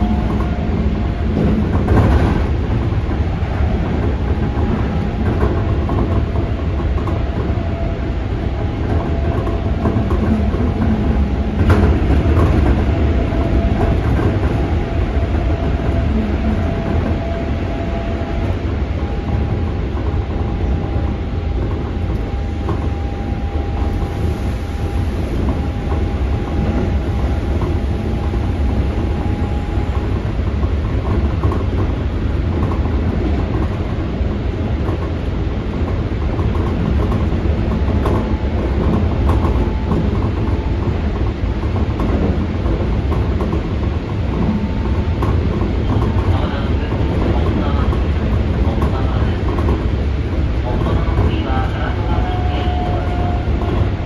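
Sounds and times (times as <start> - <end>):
rail-joint clicks: 0.0 - 54.0
train wheels rumbling on rail: 0.0 - 54.0.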